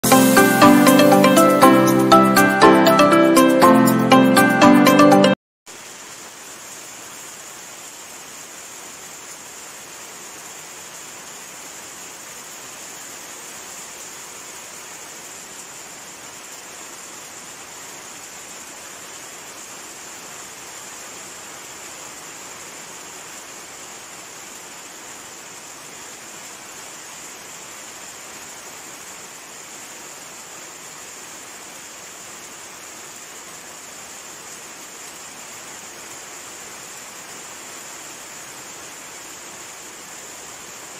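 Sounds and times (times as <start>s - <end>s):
steady rain falling: 0.0s - 3.2s, 5.7s - 40.9s.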